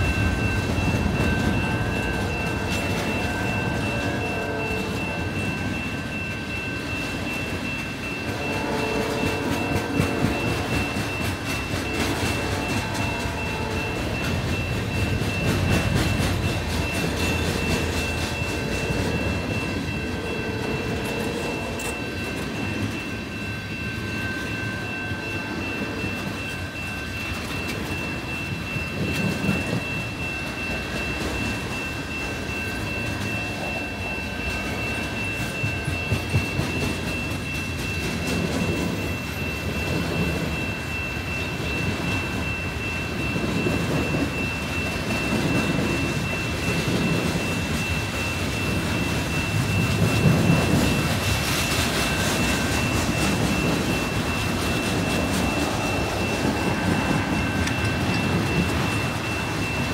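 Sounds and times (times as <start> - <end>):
freight train rumble and clatter: 0.0 - 59.9
high-pitched ringing tone: 0.0 - 59.9.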